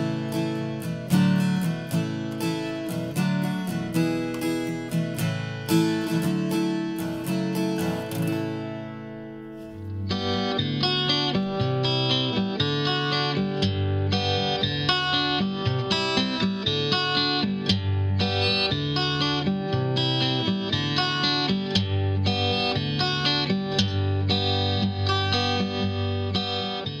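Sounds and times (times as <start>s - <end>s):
instrumental guitar music with bass: 0.0s - 27.0s.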